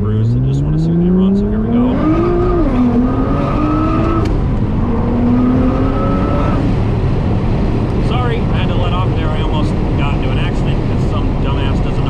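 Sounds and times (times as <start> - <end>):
car engine revving at full throttle: 0.0 - 12.0.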